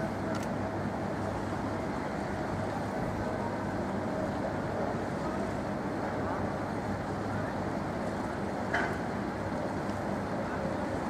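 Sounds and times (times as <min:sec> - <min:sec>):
boat engines humming: 0:00.0 - 0:11.0
low engine hum from traffic: 0:00.0 - 0:11.0.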